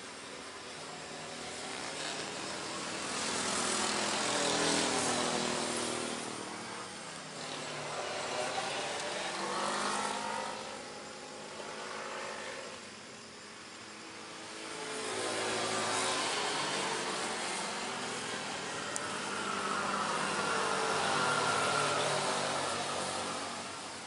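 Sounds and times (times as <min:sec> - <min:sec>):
motorcycles passing: 0:00.0 - 0:24.0.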